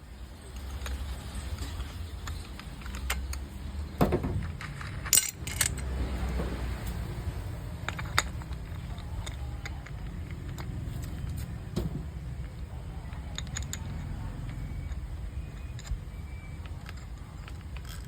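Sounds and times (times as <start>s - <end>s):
small metal parts clinking: 0.5s - 18.0s.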